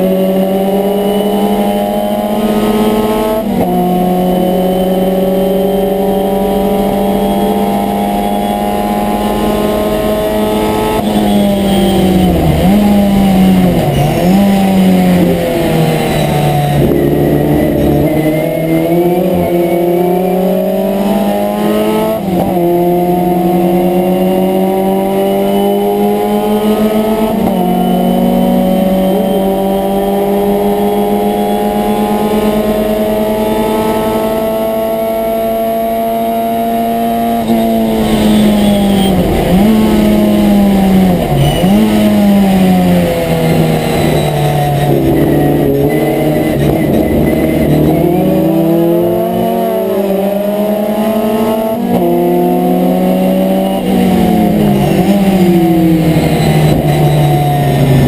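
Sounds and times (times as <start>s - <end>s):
racing engine at high revs: 0.0s - 58.0s.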